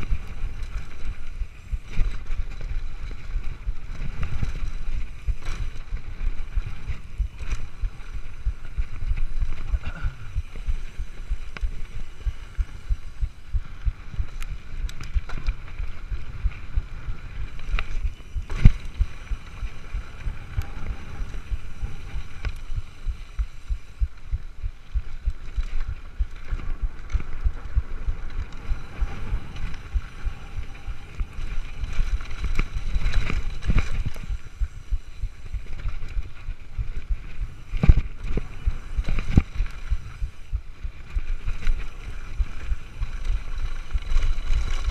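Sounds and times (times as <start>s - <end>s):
bike tyres rumbling and rattling: 0.0s - 44.9s.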